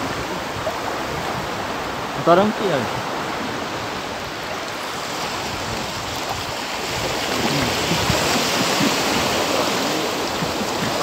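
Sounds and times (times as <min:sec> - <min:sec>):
sea waves washing against shore: 0:00.0 - 0:11.0.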